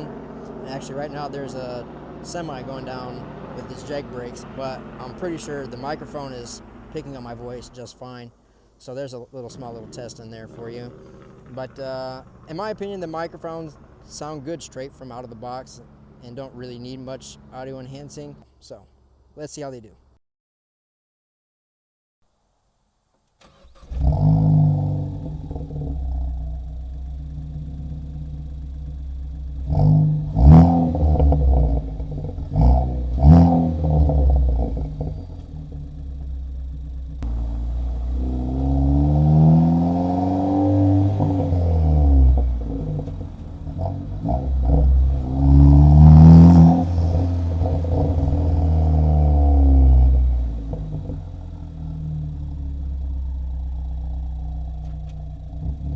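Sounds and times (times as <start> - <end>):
car engine idling and revving: 0.0 - 7.8, 9.5 - 18.4, 23.4 - 55.9
car engine starting: 0.0 - 8.5, 9.3 - 18.4, 23.3 - 55.9.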